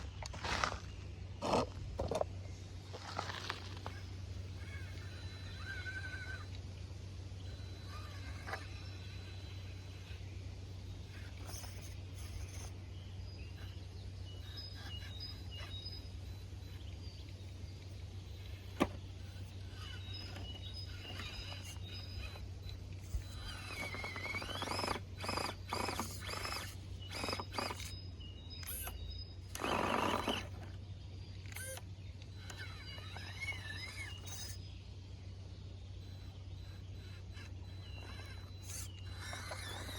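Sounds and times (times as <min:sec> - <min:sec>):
steady low hum: 0:00.0 - 0:39.9
birds chirping and calling: 0:02.9 - 0:39.9.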